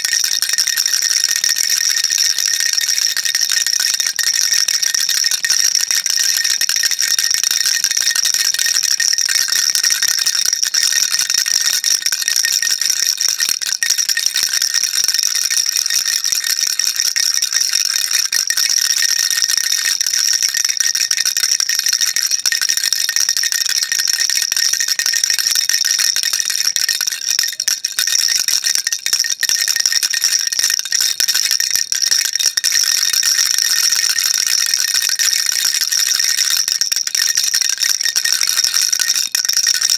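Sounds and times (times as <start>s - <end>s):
baby rattle shaking: 0.0s - 12.8s, 18.2s - 39.9s.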